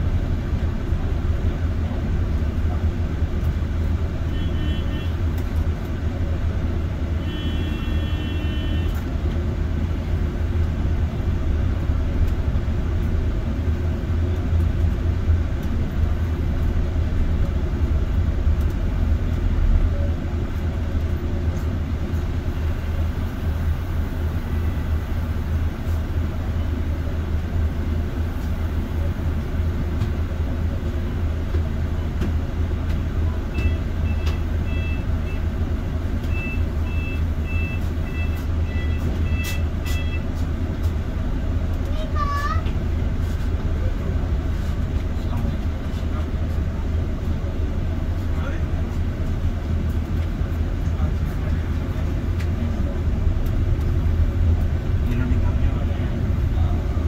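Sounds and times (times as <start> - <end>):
bus engine rumble: 0.0 - 57.0
road noise: 0.0 - 57.0.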